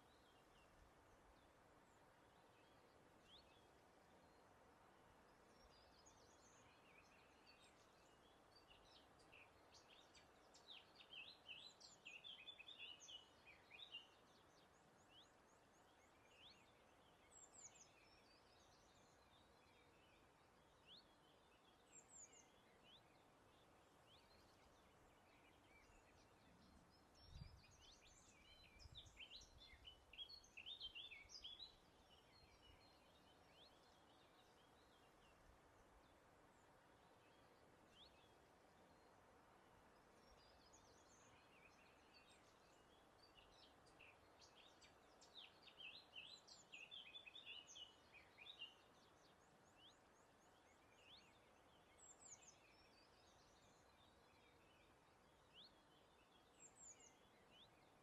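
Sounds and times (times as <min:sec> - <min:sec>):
soft breeze hiss: 0:00.0 - 0:58.0
songbirds chirping and trilling: 0:00.0 - 0:58.0.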